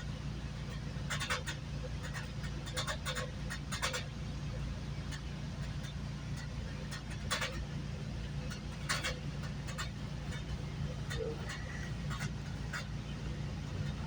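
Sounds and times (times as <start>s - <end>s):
train clatters: 0.0s - 14.0s
train rumbling on track: 0.0s - 14.0s.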